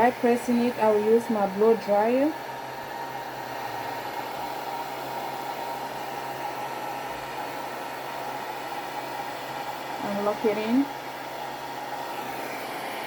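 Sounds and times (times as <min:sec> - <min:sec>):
blow dryer running: 0:00.0 - 0:13.0.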